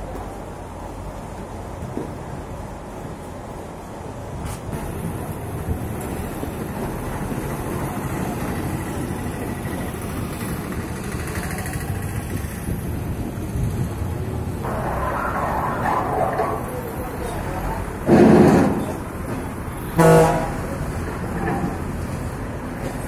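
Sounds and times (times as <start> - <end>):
bus engines and road traffic: 0.0 - 23.0.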